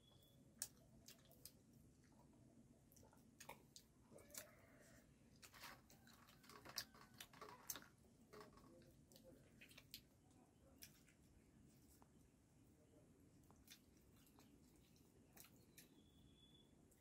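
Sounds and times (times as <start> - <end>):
person chewing and swallowing: 0.0 - 12.1, 13.4 - 16.0.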